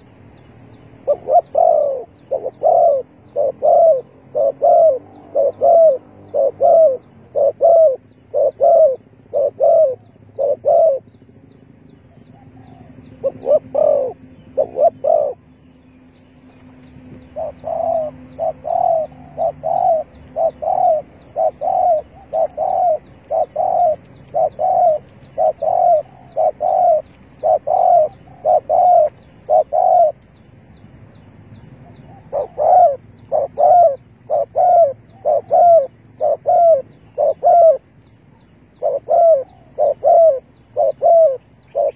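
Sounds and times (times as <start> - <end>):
dove cooing: 0.9 - 15.6, 16.4 - 30.4, 31.6 - 41.9.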